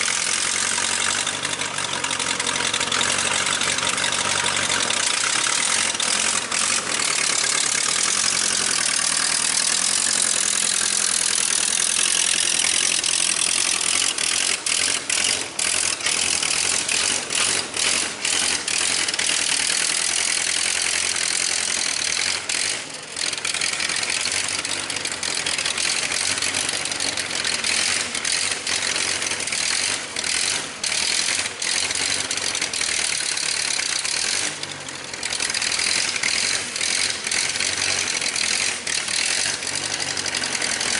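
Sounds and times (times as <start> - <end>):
mechanical rattling: 0.0 - 22.8, 29.8 - 40.9
tractor engine running: 0.0 - 40.9.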